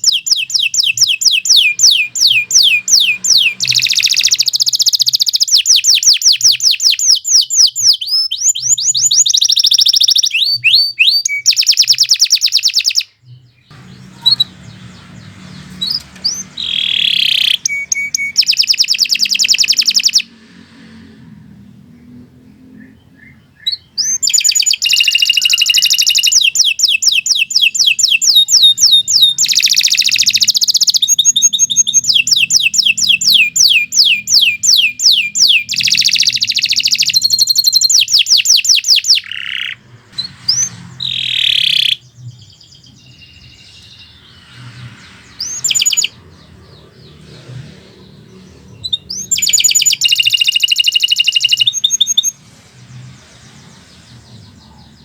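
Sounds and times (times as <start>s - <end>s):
canary singing trills: 0.0s - 20.4s, 21.7s - 55.0s.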